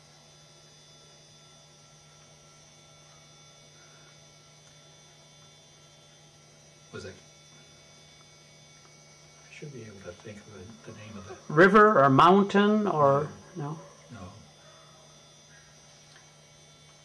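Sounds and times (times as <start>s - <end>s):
electrical mains hum: 0.0s - 17.0s
high-pitched whine: 0.0s - 17.0s.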